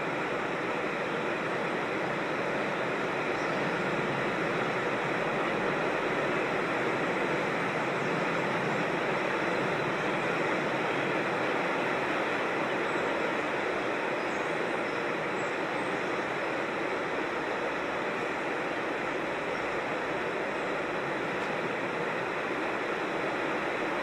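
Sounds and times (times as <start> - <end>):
creek water over small falls: 0.0 - 24.0.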